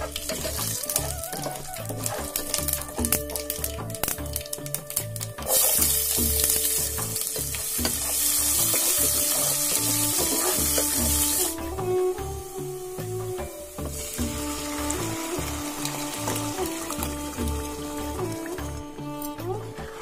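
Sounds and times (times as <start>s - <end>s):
wooden spatula stirring: 0.0s - 12.4s, 13.0s - 18.7s
background music with steady beat: 0.0s - 20.0s
onion sizzling in hot oil: 0.0s - 20.0s.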